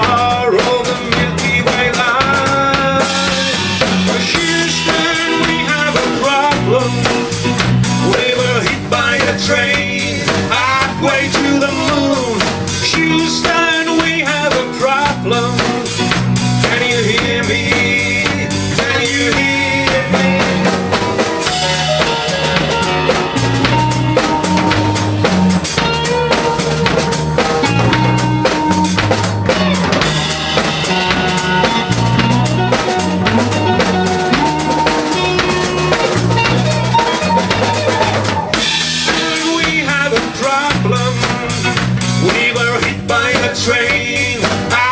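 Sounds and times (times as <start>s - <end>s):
drum kit kick and snare beat: 0.0s - 44.9s
electric bass: 0.0s - 44.9s
electric guitar: 0.0s - 44.9s.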